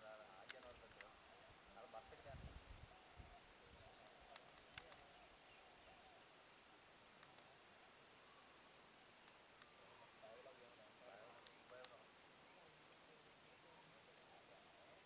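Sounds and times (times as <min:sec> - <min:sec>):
faint high bird chirps: 0:00.6 - 0:15.0.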